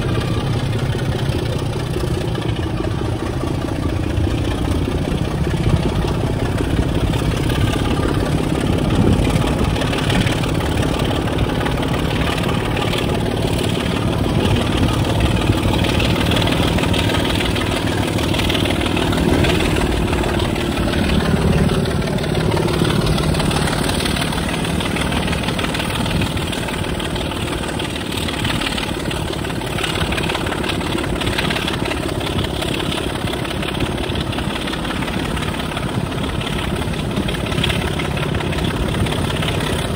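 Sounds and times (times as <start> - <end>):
diesel locomotive engine running: 0.0 - 39.9
rail noise: 0.0 - 39.9.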